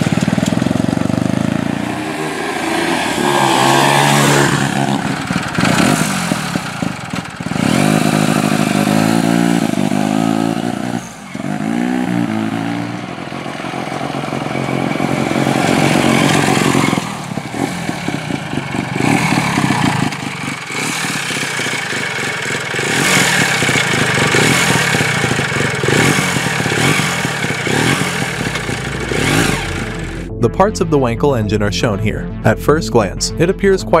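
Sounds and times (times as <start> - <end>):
motorcycle engine idling and revving: 0.0 - 30.3.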